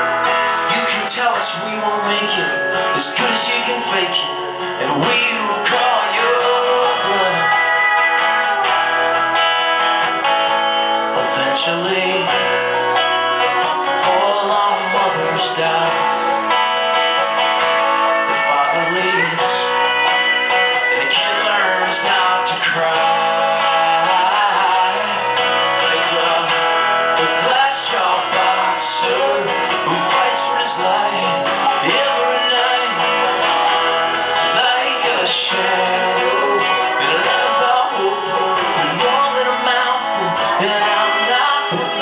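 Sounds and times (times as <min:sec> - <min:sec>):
acoustic guitar strumming: 0:00.0 - 0:42.0
live folk-rock band playing: 0:00.0 - 0:42.0.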